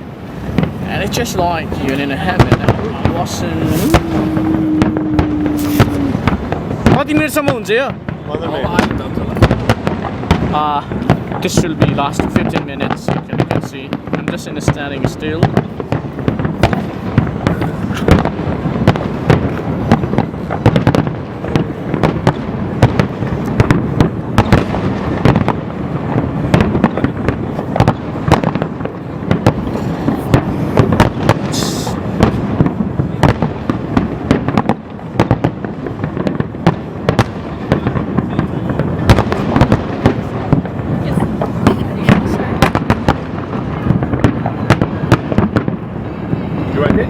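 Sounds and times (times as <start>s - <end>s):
fireworks bangs and booms: 0.0s - 47.0s
fireworks crackling: 0.0s - 47.0s.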